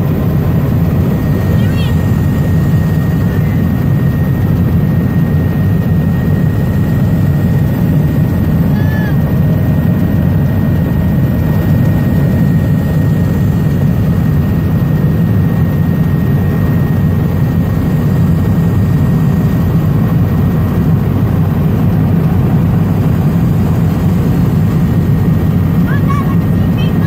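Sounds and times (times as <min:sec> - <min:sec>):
helicopter rotor and engine drone: 0:00.0 - 0:27.0.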